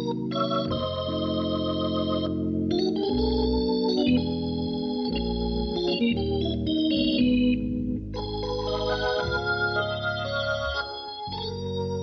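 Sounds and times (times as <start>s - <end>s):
organ chords: 0.0s - 12.0s
sustained bass notes: 0.0s - 12.0s.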